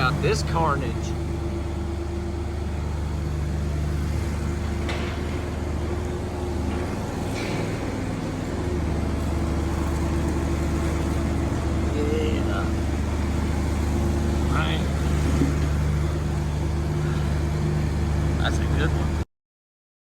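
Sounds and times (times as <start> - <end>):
engine idling: 0.0 - 19.2.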